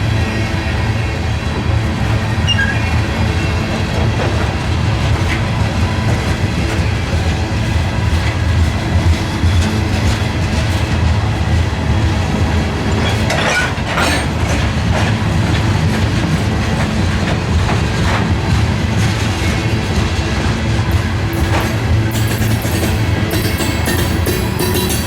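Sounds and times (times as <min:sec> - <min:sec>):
railroad cars rumbling past: 0:00.0 - 0:25.0
metallic rail noises: 0:01.8 - 0:25.0.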